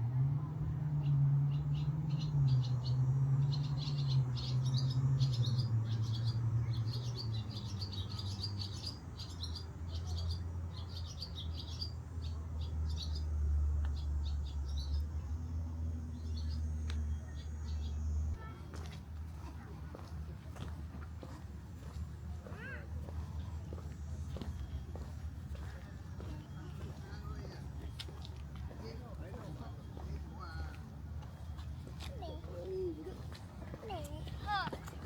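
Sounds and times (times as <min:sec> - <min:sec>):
small birds chirping: 0:01.0 - 0:35.0.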